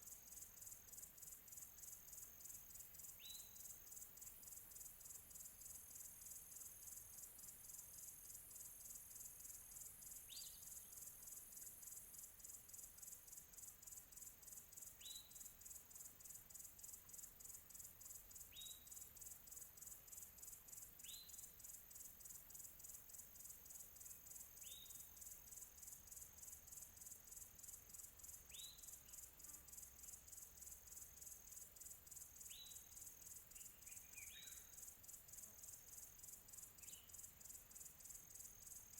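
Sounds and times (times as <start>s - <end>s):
faint crickets chirping: 0.0s - 38.9s.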